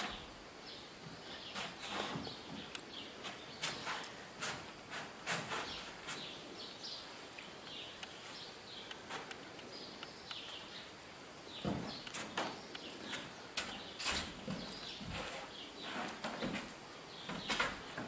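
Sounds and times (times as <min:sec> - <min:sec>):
small birds chirping: 0:00.0 - 0:04.7, 0:05.3 - 0:18.0.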